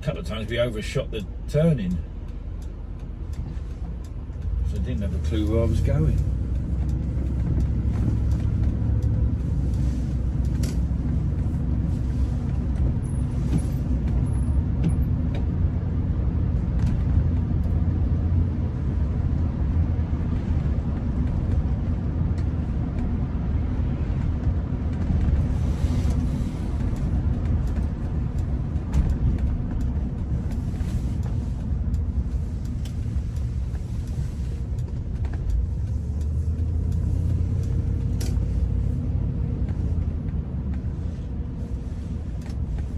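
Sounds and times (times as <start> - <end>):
car driving low rumble: 0.0 - 42.9.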